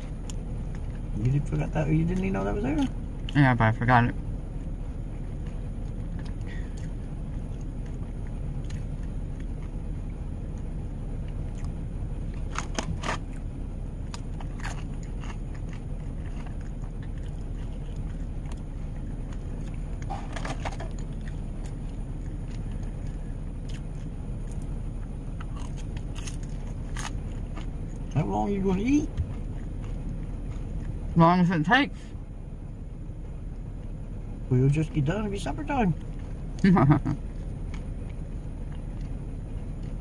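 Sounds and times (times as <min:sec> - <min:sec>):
person chewing: 0:00.0 - 0:03.4, 0:04.5 - 0:28.2, 0:29.0 - 0:31.2, 0:36.0 - 0:40.0
low rumble inside van: 0:00.0 - 0:40.0.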